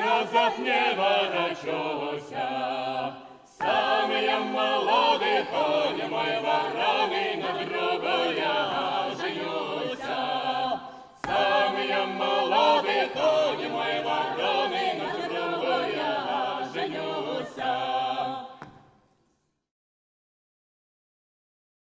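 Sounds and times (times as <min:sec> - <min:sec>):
choir singing unaccompanied: 0:00.0 - 0:18.8.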